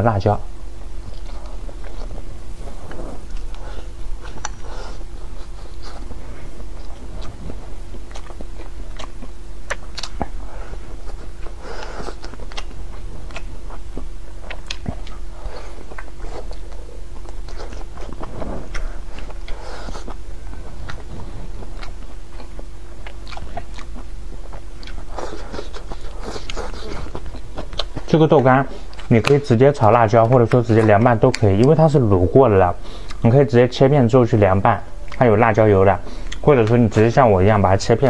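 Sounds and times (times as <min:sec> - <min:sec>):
person chewing food: 0:00.8 - 0:32.0, 0:32.9 - 0:33.3, 0:36.0 - 0:37.1.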